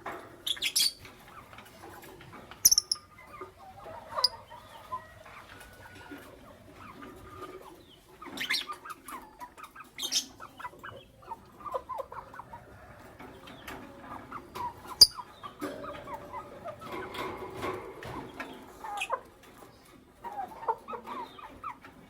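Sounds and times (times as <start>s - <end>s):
lovebirds chirping and chattering: 0.0s - 22.0s.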